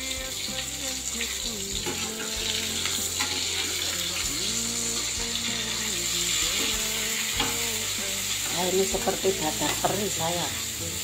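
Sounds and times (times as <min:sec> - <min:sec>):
hot oil sizzling in a pan: 0:00.0 - 0:11.0.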